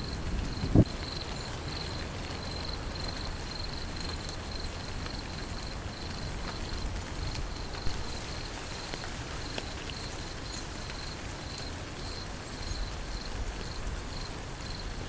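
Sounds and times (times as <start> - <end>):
insect chirping: 0.0 - 6.9, 7.5 - 15.0
rain falling: 0.0 - 15.0.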